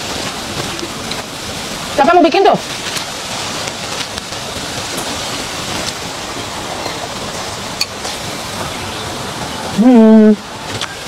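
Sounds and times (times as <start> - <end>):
hiss of falling water: 0.0 - 11.0.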